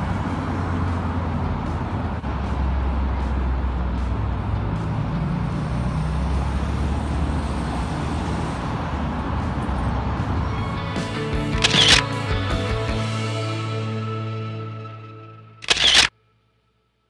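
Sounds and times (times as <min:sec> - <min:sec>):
road traffic rumble: 0:00.0 - 0:16.2.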